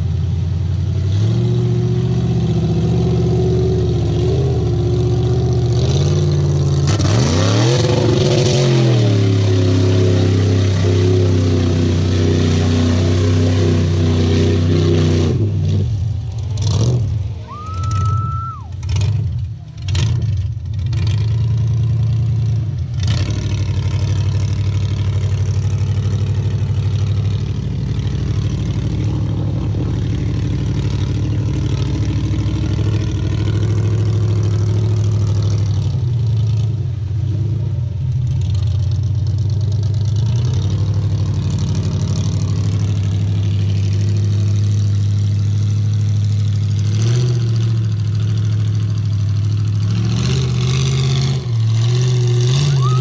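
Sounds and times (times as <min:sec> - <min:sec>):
vehicle wading through water: 0:00.0 - 0:53.0.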